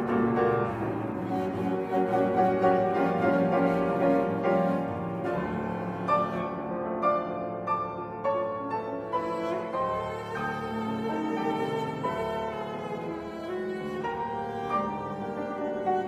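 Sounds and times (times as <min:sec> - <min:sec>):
cello: 0:00.0 - 0:16.0
piano chords: 0:00.0 - 0:16.0.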